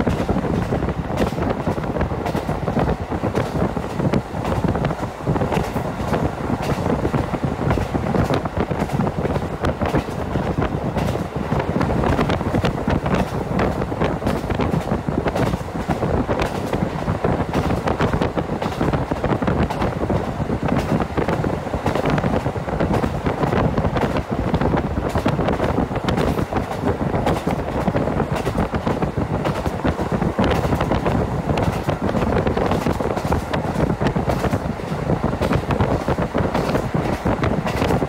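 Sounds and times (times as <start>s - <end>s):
train wheels and engine rumble: 0.0s - 38.0s
wind buffeting on microphone: 0.0s - 38.0s.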